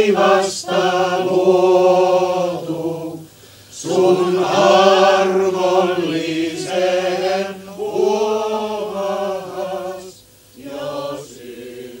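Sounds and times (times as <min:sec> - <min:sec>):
group singing a hymn: 0:00.0 - 0:12.0.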